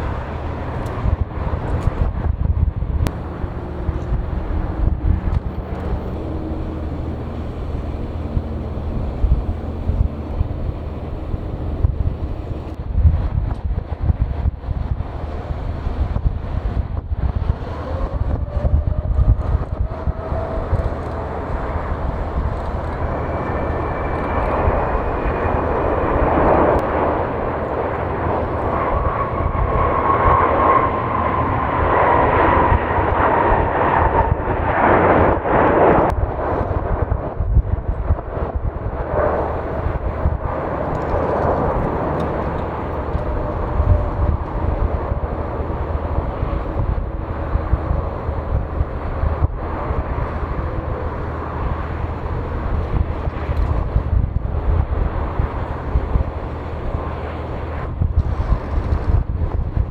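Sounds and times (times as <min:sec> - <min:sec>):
jet engines rushing with whine: 0:00.0 - 0:59.9.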